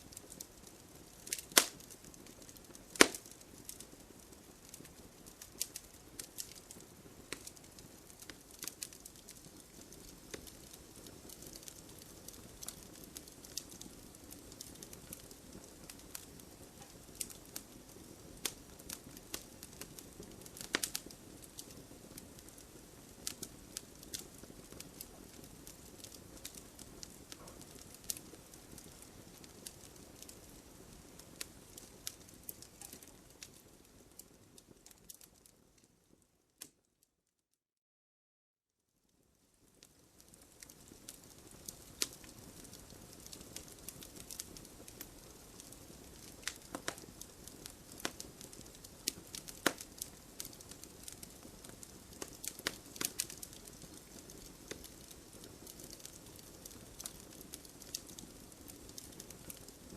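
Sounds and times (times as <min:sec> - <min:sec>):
wood fire crackling: 0:00.0 - 0:36.8, 0:39.3 - 0:59.9.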